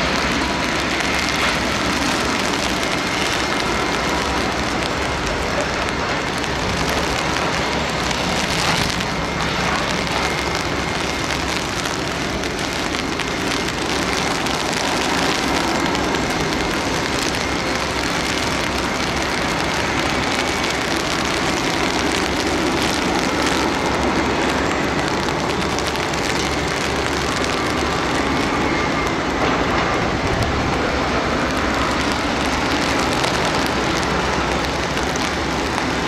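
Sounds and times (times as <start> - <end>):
jet engine hiss and whine: 0.0 - 36.0.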